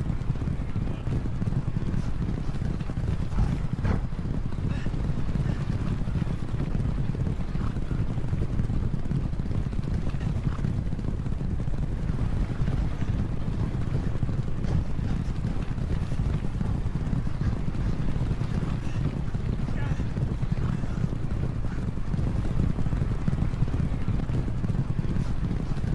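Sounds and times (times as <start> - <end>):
horses galloping: 0.0 - 25.9.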